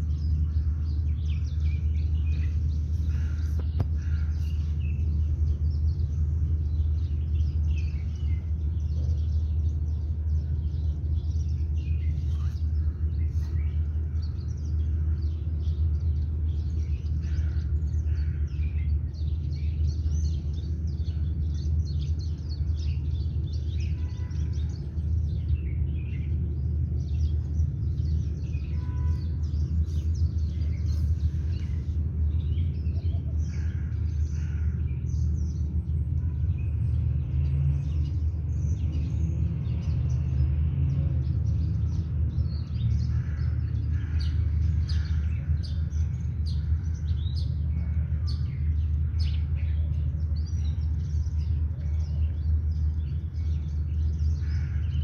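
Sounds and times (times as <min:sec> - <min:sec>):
low outdoor rumble: 0:00.0 - 0:55.0
small birds chirping: 0:00.0 - 0:55.0.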